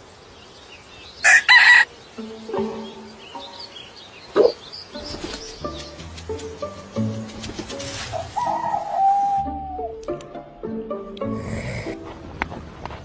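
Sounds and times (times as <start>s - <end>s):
soft background music: 1.5s - 13.0s.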